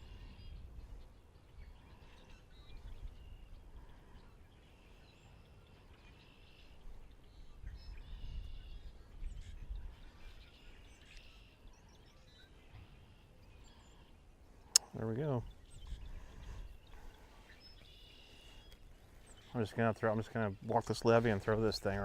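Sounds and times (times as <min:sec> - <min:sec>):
birds chirping and singing: 0:00.0 - 0:22.0.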